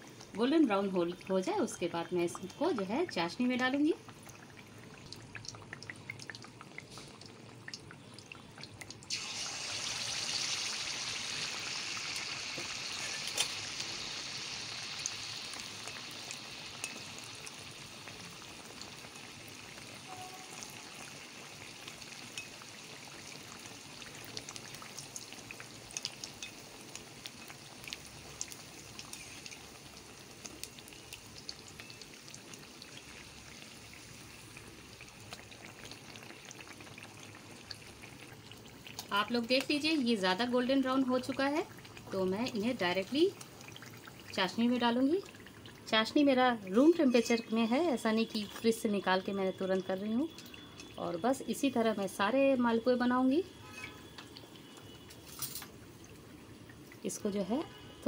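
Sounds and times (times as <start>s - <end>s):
batter sizzling in hot oil: 0.0s - 58.0s.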